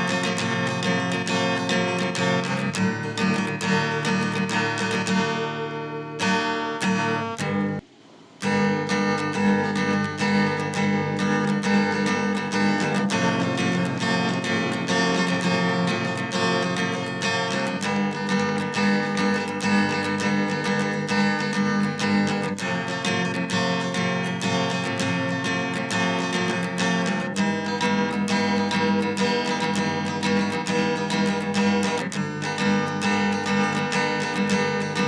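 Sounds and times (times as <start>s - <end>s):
strummed acoustic guitar: 0.0s - 35.0s.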